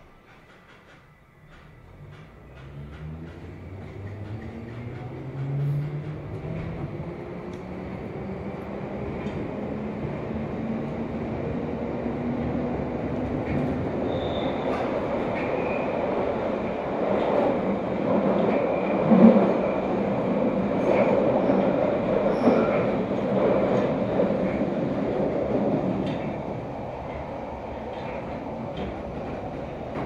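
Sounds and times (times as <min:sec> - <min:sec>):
train wheels on rail in tunnel: 0:00.0 - 0:30.0.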